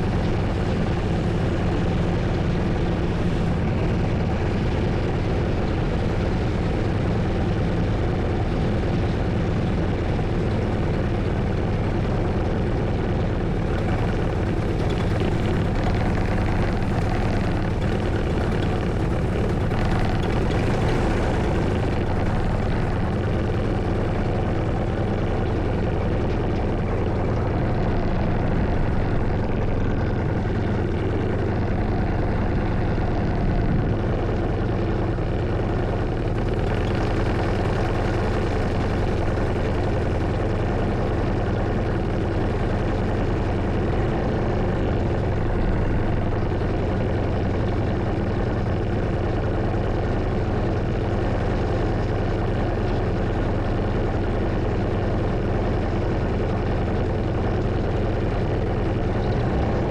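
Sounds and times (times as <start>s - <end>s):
paramotor engine droning: 0.0s - 59.9s.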